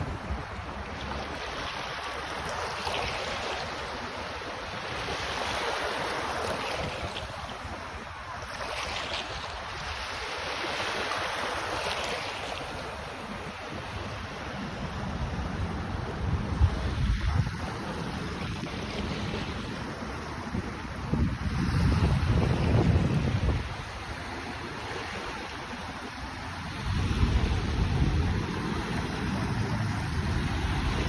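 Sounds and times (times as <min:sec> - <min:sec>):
wind rumble on microphone: 0:00.0 - 0:10.3, 0:11.8 - 0:31.0
sea waves washing onto beach: 0:00.0 - 0:31.0.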